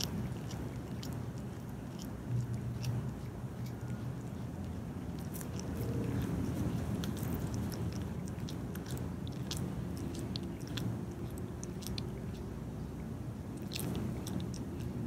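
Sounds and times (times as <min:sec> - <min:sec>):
cat chewing with wet crunches: 0:00.0 - 0:15.0
low background noise: 0:00.0 - 0:15.0.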